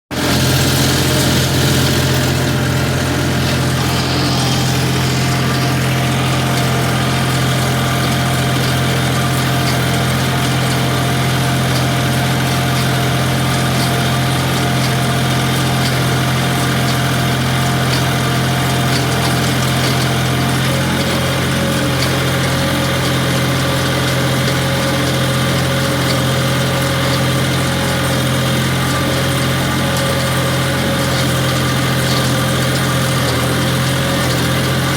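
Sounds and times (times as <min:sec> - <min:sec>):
tractor engine droning: 0:00.1 - 0:34.9.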